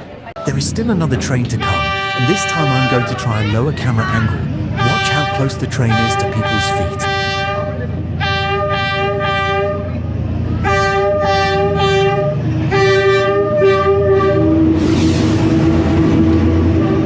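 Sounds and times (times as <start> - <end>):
train rushing noise: 0.4 - 7.4, 10.0 - 17.0
locomotive rumble: 0.4 - 17.0
train horn blasts: 1.5 - 3.7, 4.4 - 17.0.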